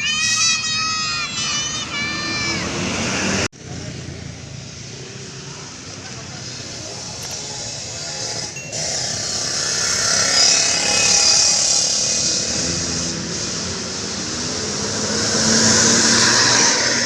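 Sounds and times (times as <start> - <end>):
bus diesel engine: 0.0 - 17.0
rushing road and air noise: 0.0 - 17.0.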